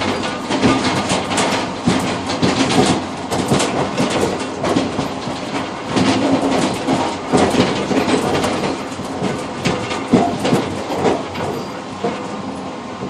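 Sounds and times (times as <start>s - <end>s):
wheels knocking on track: 0.0s - 12.4s
train running gear rumble: 0.0s - 13.0s.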